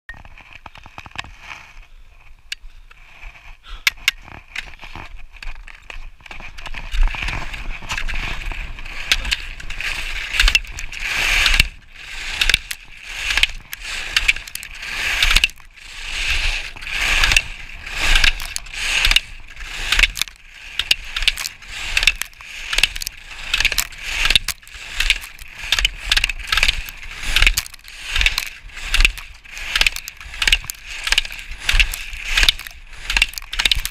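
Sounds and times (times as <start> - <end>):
skis scraping on snow: 0.1 - 33.9.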